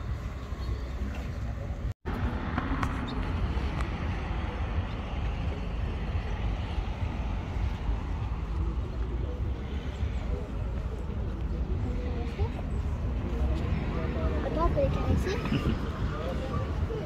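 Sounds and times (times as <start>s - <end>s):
low roadside rumble: 0.0s - 17.0s.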